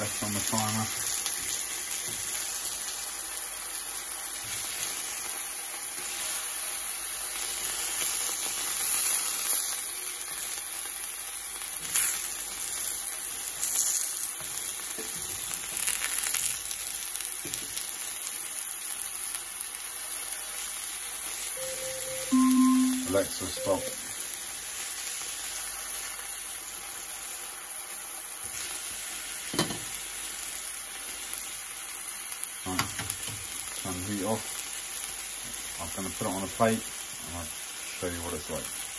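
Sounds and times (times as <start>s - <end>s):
meat sizzling in a skillet: 0.0s - 22.2s, 23.1s - 38.9s.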